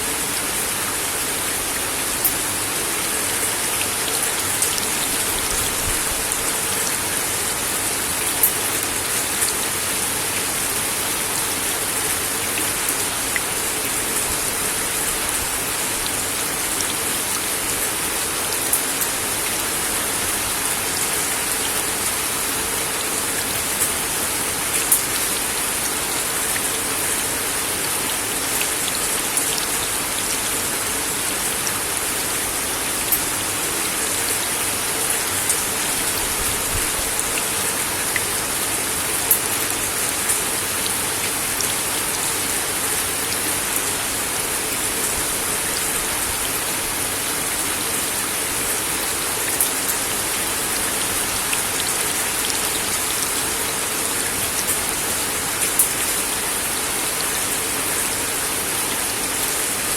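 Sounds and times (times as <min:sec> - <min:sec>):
rain on a wooden deck: 0:00.0 - 0:59.9.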